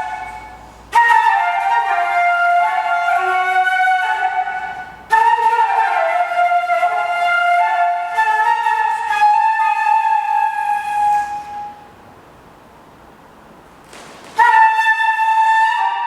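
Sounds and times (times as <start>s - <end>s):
wind instrument melody: 0.0s - 12.0s, 14.4s - 16.0s.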